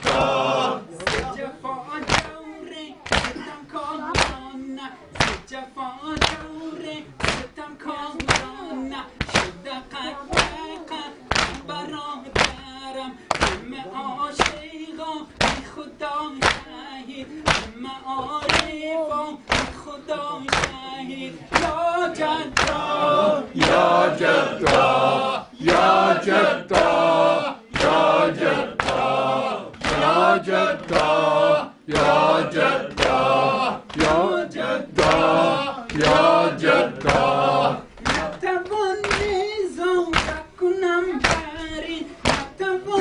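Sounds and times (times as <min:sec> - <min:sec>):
men chanting a lament: 0:00.0 - 0:43.0.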